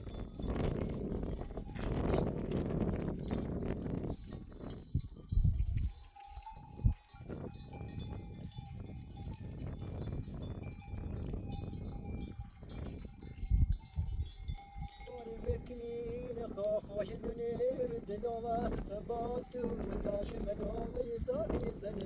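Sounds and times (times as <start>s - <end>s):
sheep bells clanking: 0.0s - 22.0s.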